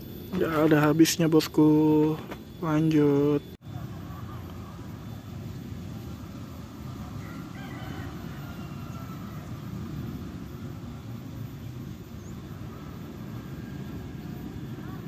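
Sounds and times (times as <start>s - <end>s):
low outdoor rumble: 0.0s - 15.0s
distant bird call: 2.4s - 15.0s.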